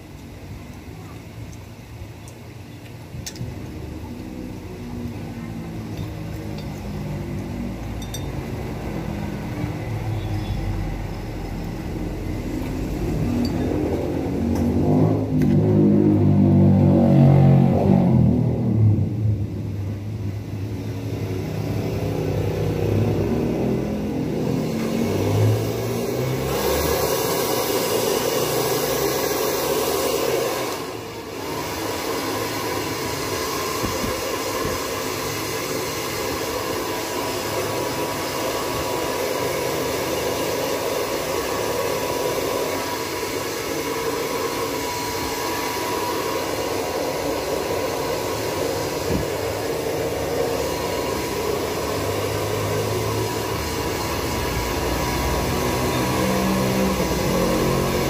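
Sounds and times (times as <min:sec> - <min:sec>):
hair dryer blowing: 0:03.4 - 0:19.4, 0:20.4 - 0:58.0.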